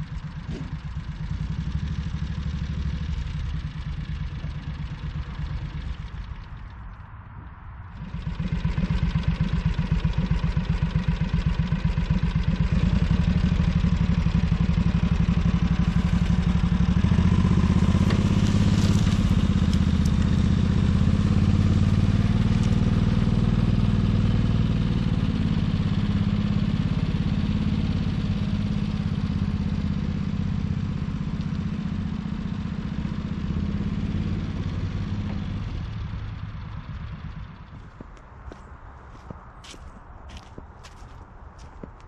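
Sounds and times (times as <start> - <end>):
utility vehicle engine running: 0.0 - 42.0.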